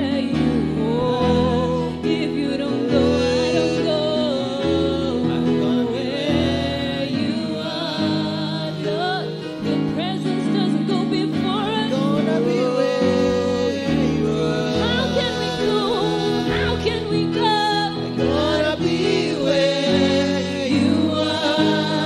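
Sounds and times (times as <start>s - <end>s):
instrumental accompaniment: 0.0s - 22.0s
woman singing gospel song: 0.0s - 22.0s.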